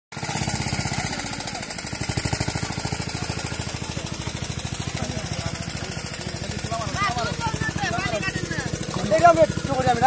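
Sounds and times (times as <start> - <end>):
small engine running: 0.1 - 10.0.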